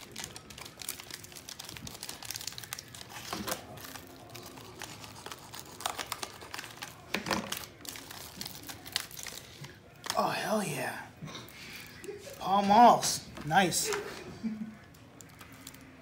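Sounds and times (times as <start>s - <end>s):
plastic wrapping crinkling: 0.0s - 10.7s, 11.4s - 16.0s.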